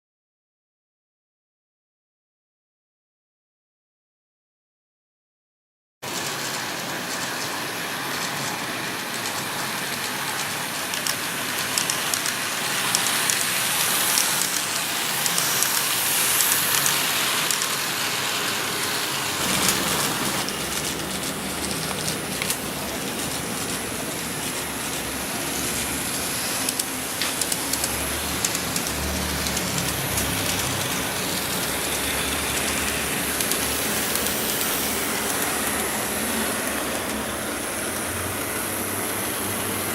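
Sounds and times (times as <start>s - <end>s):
train running along track: 6.0s - 39.9s.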